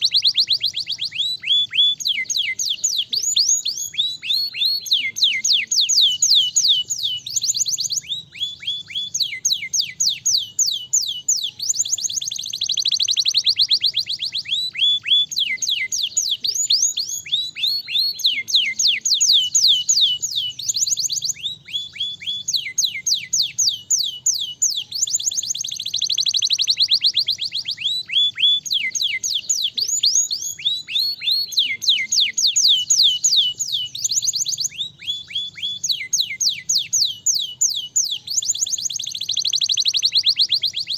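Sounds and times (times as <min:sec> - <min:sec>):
canary singing rapid trills: 0:00.0 - 0:40.9.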